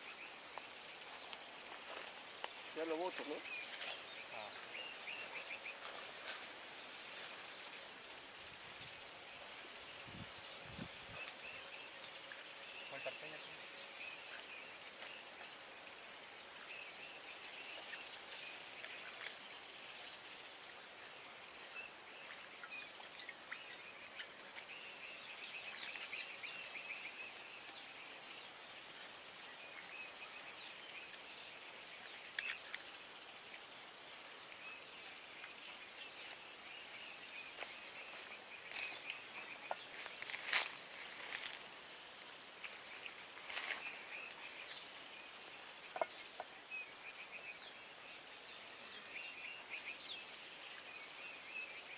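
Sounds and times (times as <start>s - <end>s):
rustles and crackles close by: 0.0s - 31.1s, 31.9s - 47.6s
insects chirping: 0.0s - 51.9s
bird chirps: 8.7s - 51.9s.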